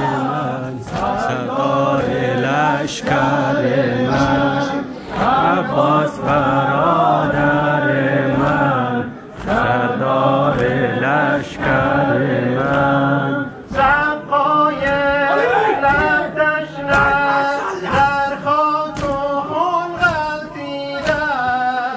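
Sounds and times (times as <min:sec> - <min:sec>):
crowd of men chanting: 0:00.0 - 0:21.9.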